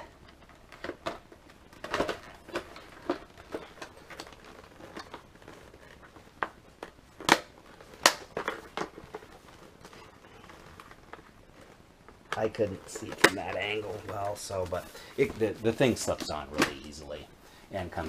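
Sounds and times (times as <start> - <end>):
helmet rustling and scraping: 0.0 - 18.0.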